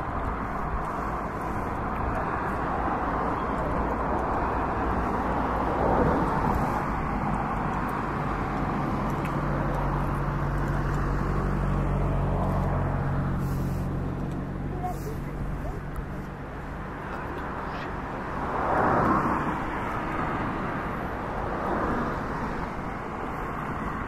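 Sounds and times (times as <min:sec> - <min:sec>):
road traffic noise: 0:00.0 - 0:24.0
vehicle engine humming close by: 0:00.0 - 0:24.0.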